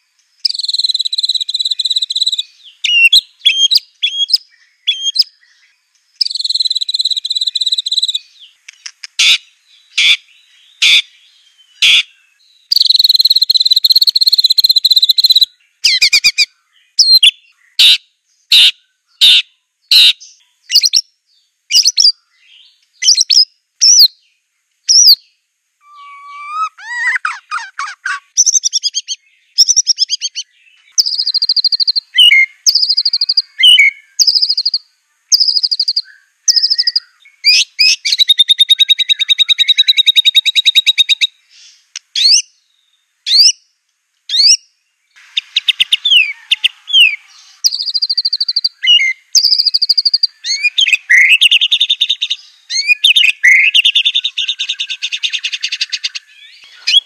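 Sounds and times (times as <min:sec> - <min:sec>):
songbird singing trills and whistles: 0:00.0 - 0:43.7, 0:44.3 - 0:57.0.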